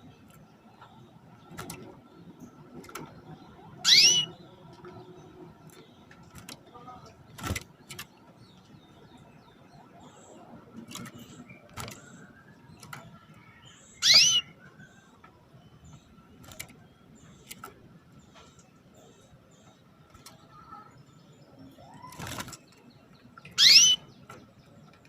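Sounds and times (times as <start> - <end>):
canary chirp: 2.7 - 7.2, 7.8 - 25.0.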